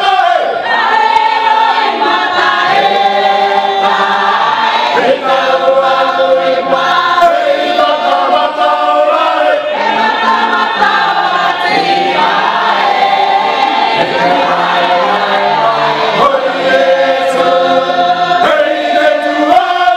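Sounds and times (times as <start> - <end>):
choir singing: 0.0 - 19.9.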